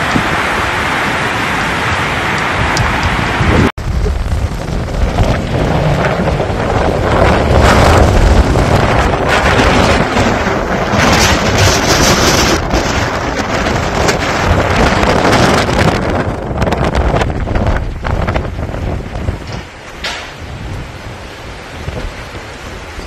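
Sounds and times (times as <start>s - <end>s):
rough sea: 0.0s - 23.0s
strong wind buffeting microphone: 0.0s - 23.0s.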